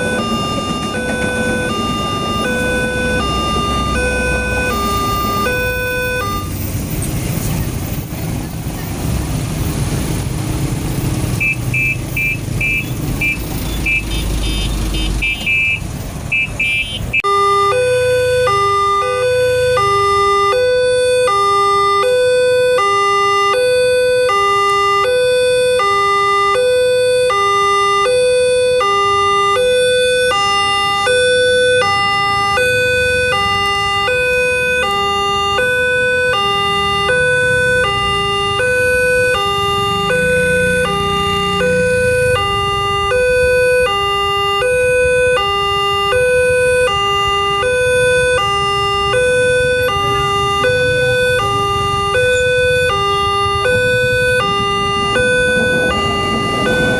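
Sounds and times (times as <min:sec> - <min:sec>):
two-tone crossing siren: 0:00.0 - 0:09.1, 0:11.2 - 0:56.9.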